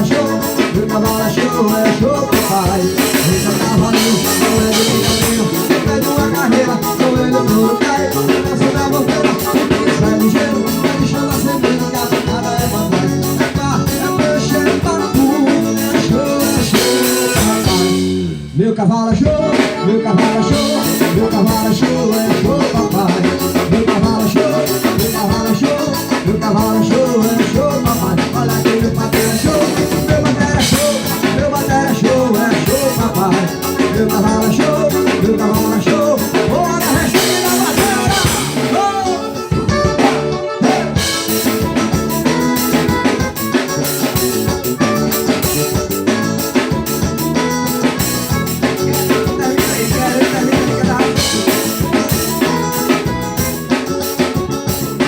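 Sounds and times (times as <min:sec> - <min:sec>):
band music playing: 0:00.0 - 0:55.0
drum kit beat with rimshots: 0:00.0 - 0:55.0
guitar: 0:00.0 - 0:55.0.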